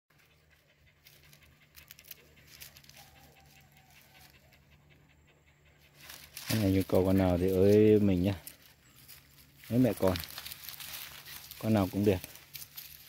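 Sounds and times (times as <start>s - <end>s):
rustling in dry leaves: 0.1s - 4.6s, 5.8s - 13.0s
dogs panting: 0.1s - 13.0s.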